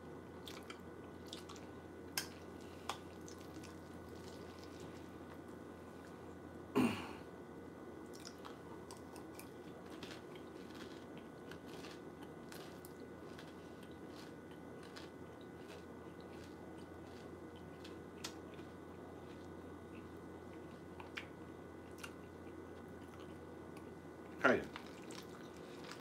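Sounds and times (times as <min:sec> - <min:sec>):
person chewing cereal: 0:00.3 - 0:06.4, 0:08.0 - 0:26.0.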